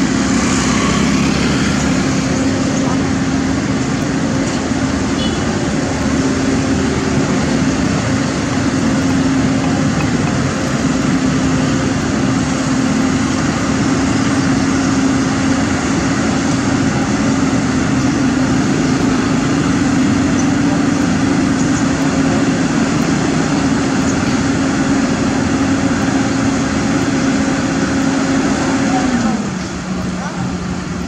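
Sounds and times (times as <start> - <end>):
excavator diesel engine drone: 0.0 - 31.0.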